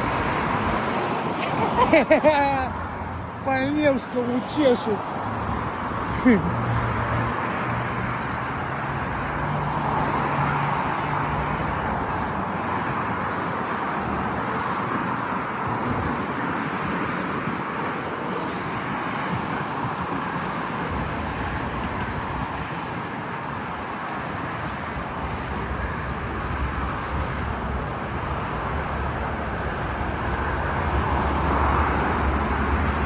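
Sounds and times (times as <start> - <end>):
passing traffic: 0.0 - 33.0.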